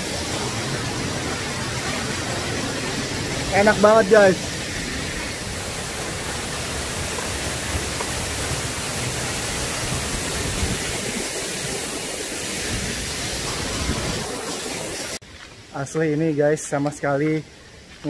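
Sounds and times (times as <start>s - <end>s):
waterfall rushing: 0.0s - 15.2s.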